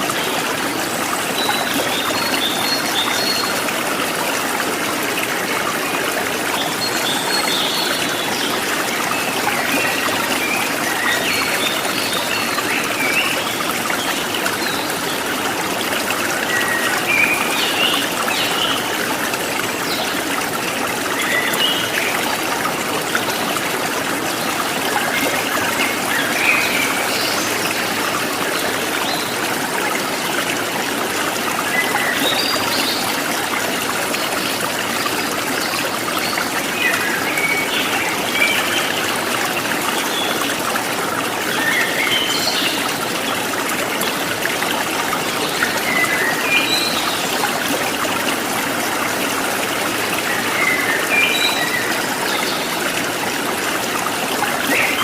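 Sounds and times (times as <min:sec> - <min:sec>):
stream over stones: 0:00.0 - 0:55.0.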